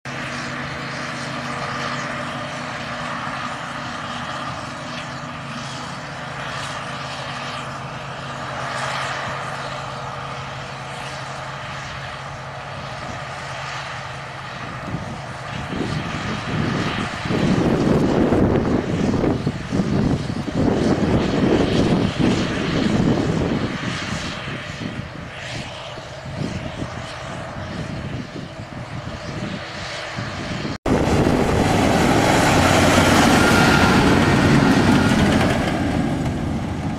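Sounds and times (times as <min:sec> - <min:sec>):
forage harvester engine drone: 0:00.1 - 0:36.9.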